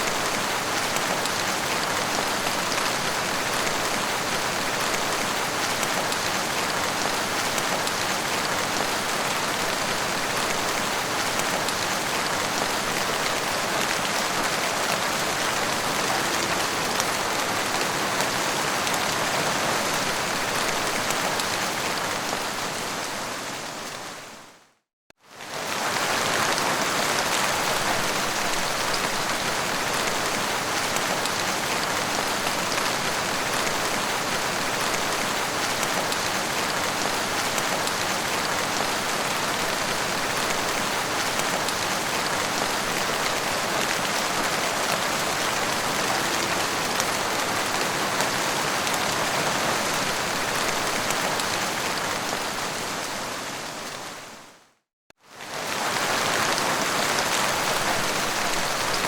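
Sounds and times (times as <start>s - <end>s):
heavy rain falling: 0.0s - 24.3s, 25.3s - 54.4s, 55.3s - 59.0s.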